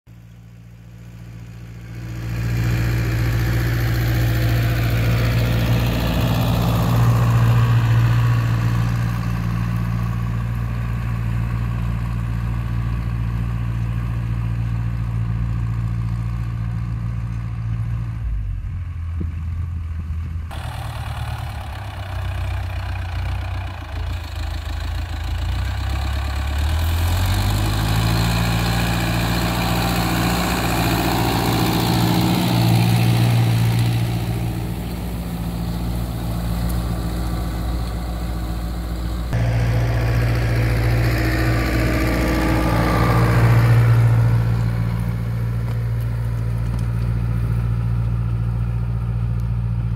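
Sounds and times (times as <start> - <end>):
tractor diesel engine under load: 0.1 - 49.9.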